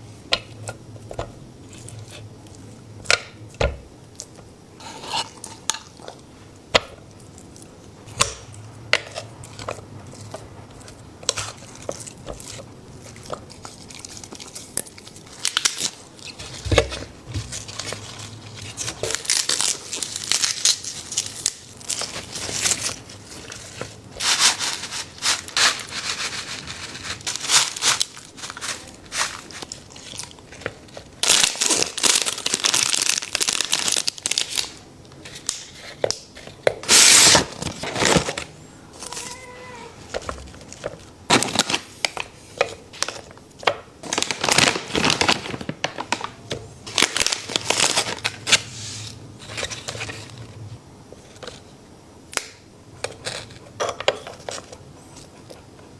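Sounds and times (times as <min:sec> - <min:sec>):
food crinkling and crunching: 0:00.0 - 0:55.8.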